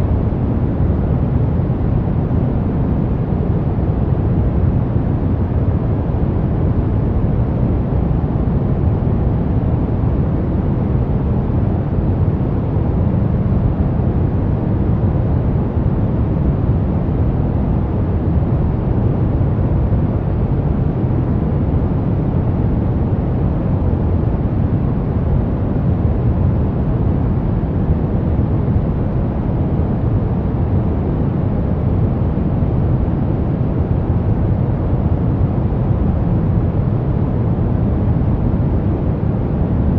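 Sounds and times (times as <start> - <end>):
steady brown noise rumble: 0.0 - 39.9.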